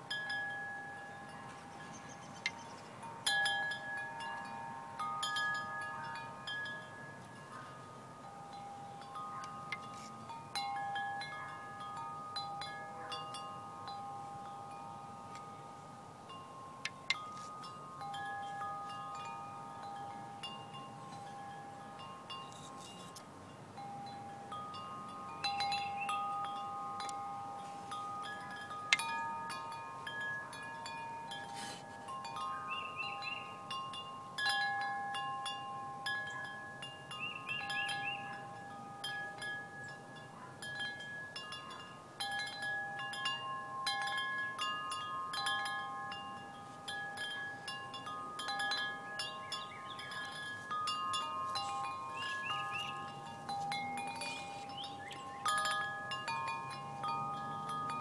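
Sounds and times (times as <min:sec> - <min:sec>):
metal tube wind chime ringing: 0:00.0 - 0:58.0.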